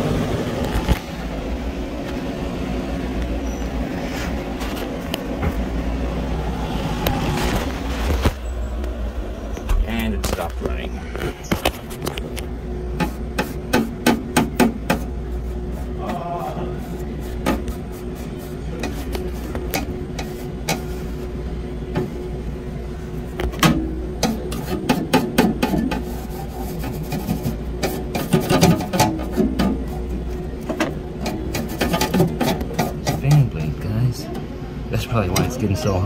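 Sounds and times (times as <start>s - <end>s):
condensing unit humming: 0.0s - 36.0s.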